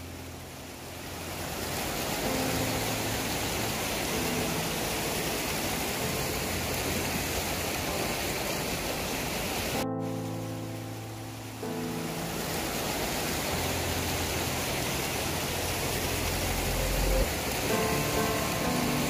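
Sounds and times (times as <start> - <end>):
faint piano music: 0.0 - 19.0
river rushing over rocks: 0.0 - 19.0.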